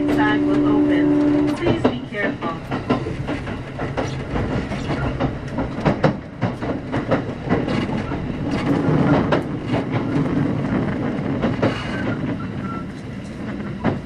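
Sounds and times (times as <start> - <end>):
train running gear rumble: 0.0 - 14.0
wheels clicking over rail joints: 0.0 - 14.0.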